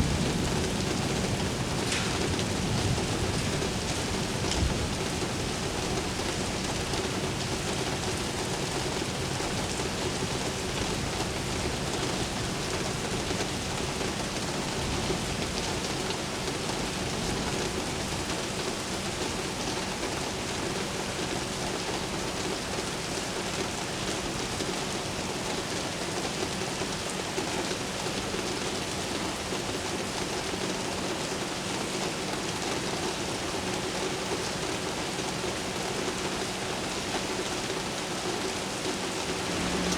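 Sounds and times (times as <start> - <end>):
heavy rain splashing: 0.0 - 39.9.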